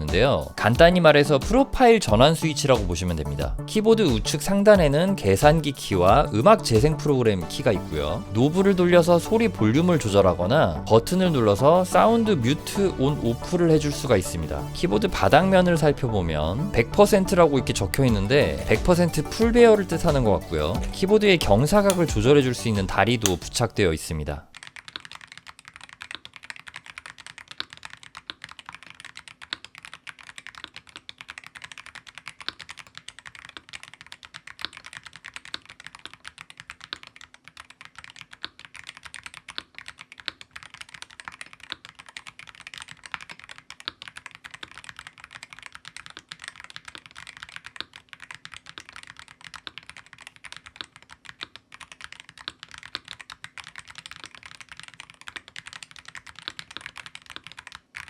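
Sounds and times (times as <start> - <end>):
keyboard typing: 0.0 - 58.0.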